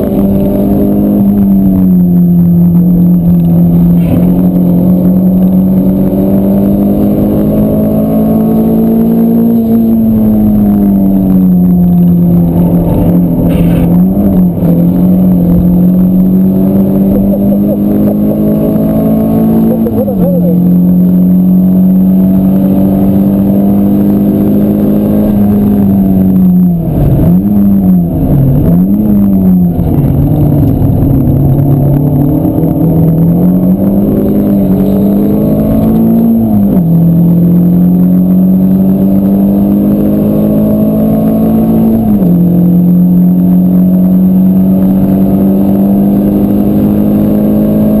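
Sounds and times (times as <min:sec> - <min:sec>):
car engine revving under acceleration: 0:00.0 - 0:48.0.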